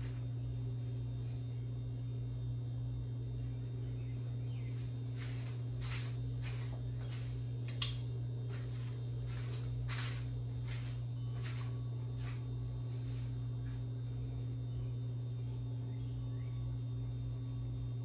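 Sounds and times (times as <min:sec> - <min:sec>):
ceiling fan motor hum: 0:00.0 - 0:18.0.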